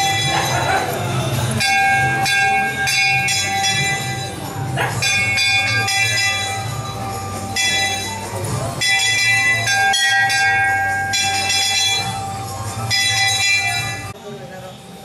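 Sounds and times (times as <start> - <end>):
bells ringing: 0.0 - 14.2.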